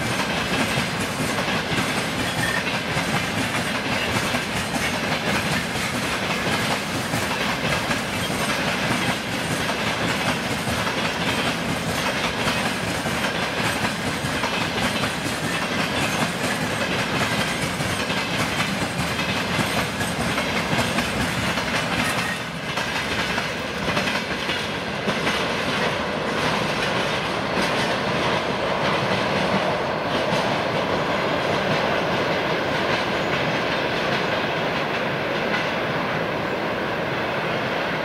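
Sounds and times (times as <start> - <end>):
train wheels clattering over rail joints: 0.0 - 35.8
train rumble: 0.0 - 38.0.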